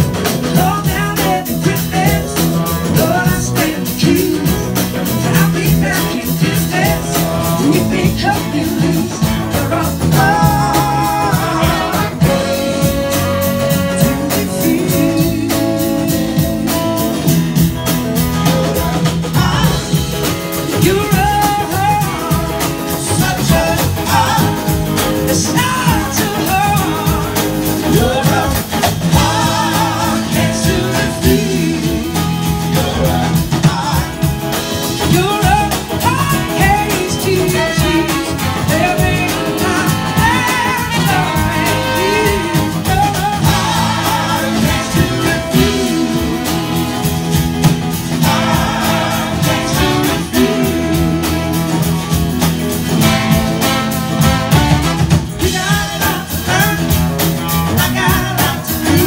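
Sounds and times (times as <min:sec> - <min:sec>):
person singing: 0:00.0 - 0:47.2, 0:48.2 - 0:52.1, 0:55.4 - 0:59.0
blues-rock band playing live: 0:00.0 - 0:59.0.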